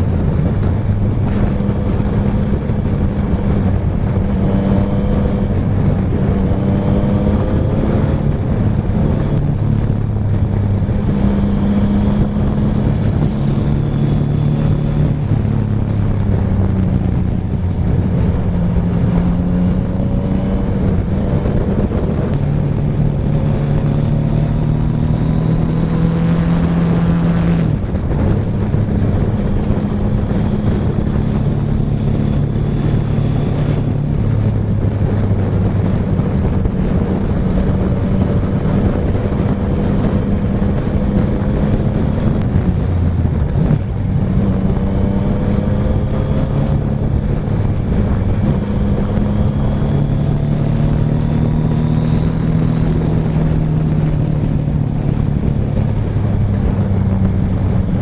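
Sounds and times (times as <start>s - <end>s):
scooter engine cruising: 0.0s - 58.0s
wind rushing over microphone: 0.0s - 58.0s.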